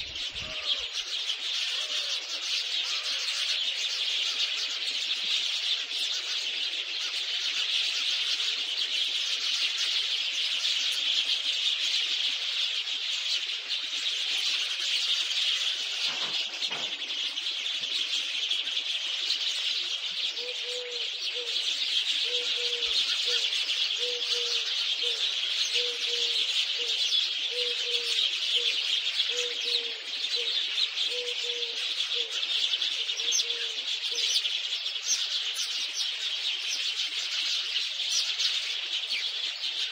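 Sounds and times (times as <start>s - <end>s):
high-pitched bird chirping chorus: 0.0s - 39.9s.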